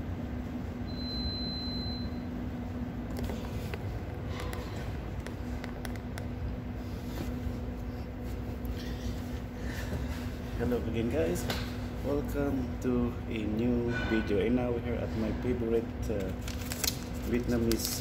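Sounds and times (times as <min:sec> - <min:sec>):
low droning hum: 0:00.0 - 0:18.0.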